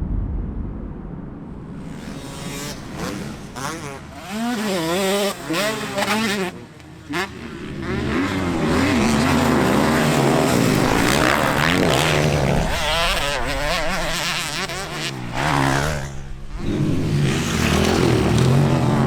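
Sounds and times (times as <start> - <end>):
motocross bikes racing past: 1.8 - 19.0.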